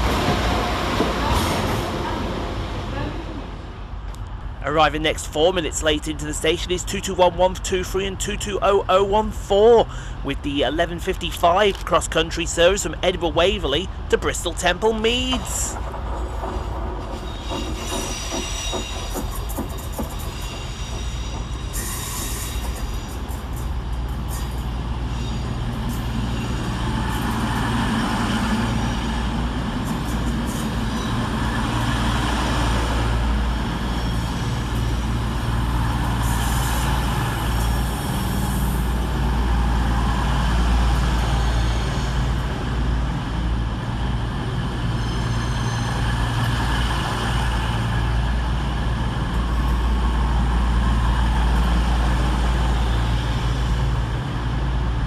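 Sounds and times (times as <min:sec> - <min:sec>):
diesel train engines idling: 0:00.0 - 0:55.0.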